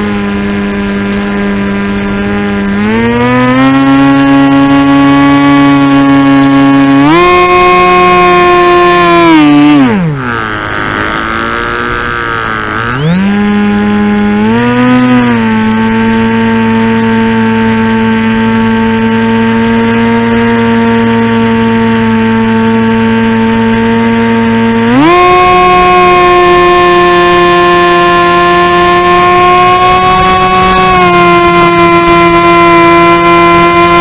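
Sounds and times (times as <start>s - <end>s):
model airplane motor and propeller: 0.0s - 34.0s.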